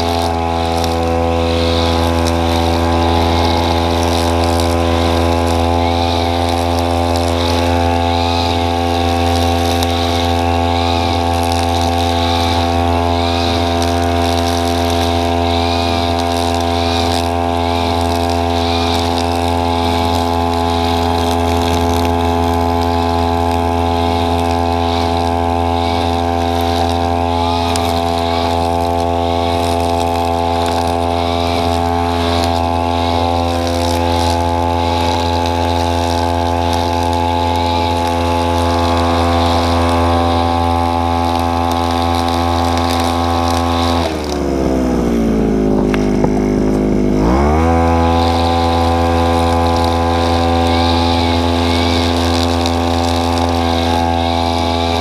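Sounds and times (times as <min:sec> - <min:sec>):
brush cutter engine running: 0:00.0 - 0:55.0.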